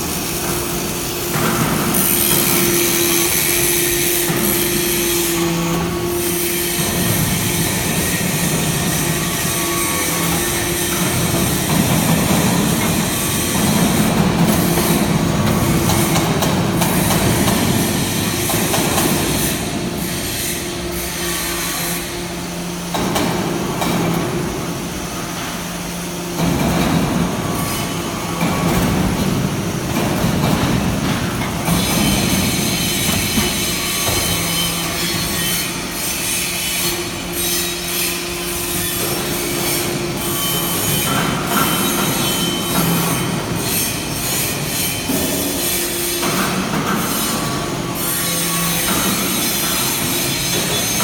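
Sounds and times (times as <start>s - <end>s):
motor and pump hum: 0.0s - 51.0s.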